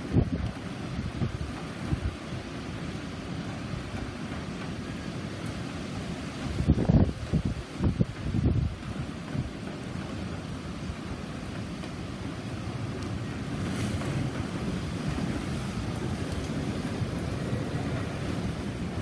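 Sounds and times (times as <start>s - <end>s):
strong wind and heavy rain: 0.0s - 19.0s.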